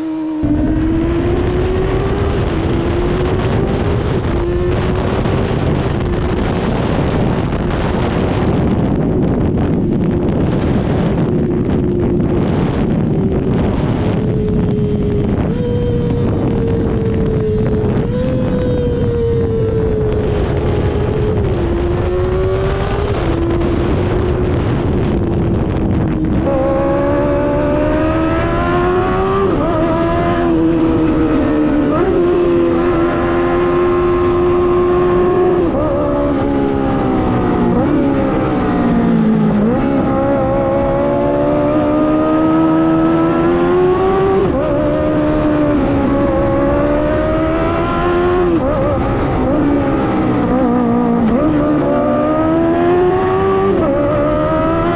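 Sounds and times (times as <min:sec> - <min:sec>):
motorcycle engine revving: 0:00.0 - 0:54.9
wind on microphone: 0:00.0 - 0:54.9.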